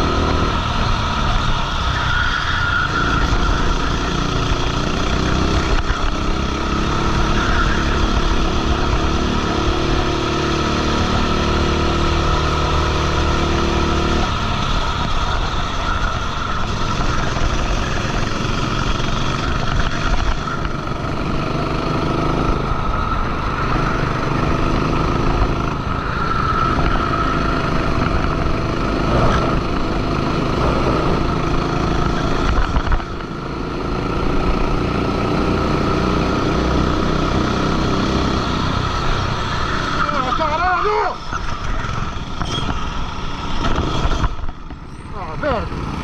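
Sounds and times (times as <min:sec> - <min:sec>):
go-kart engine racing: 0:00.0 - 0:46.0.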